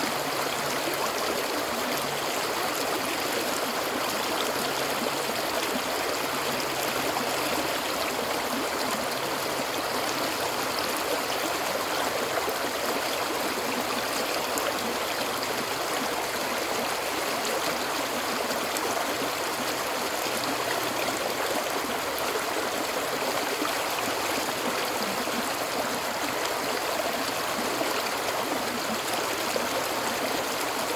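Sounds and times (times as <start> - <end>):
running water gurgling: 0.0 - 30.9.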